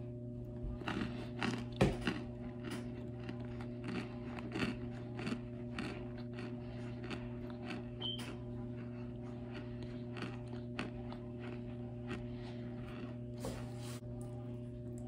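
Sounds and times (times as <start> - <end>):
steady low hum: 0.0 - 15.0
crunchy food being chewed: 0.4 - 15.0.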